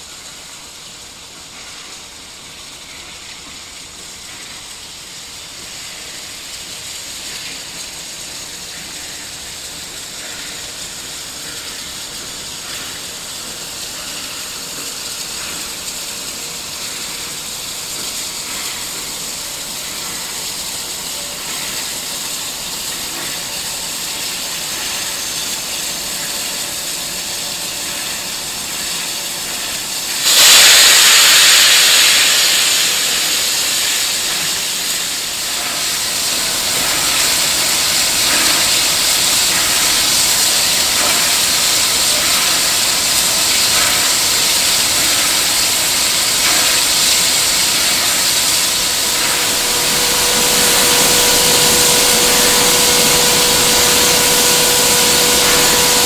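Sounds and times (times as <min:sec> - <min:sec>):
loud rush of venting steam: 0:00.0 - 0:56.0
steam locomotive hissing steam: 0:00.0 - 0:56.0.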